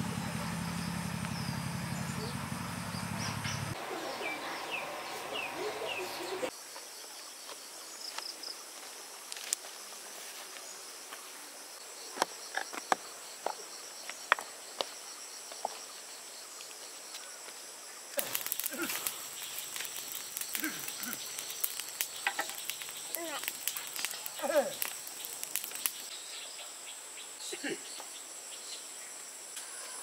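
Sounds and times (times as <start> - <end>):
insects chirring: 0.1 - 30.0.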